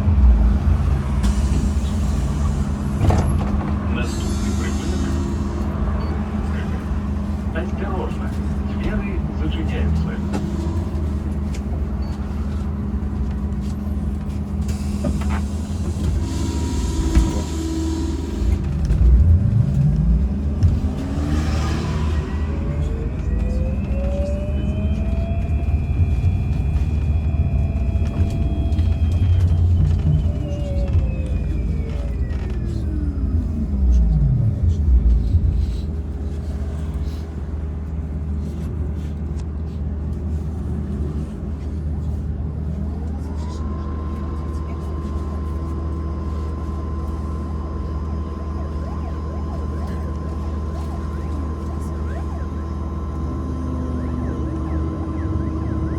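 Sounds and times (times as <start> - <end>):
electric bus hum: 0.0 - 55.9
vehicle cabin rumble: 0.0 - 55.9.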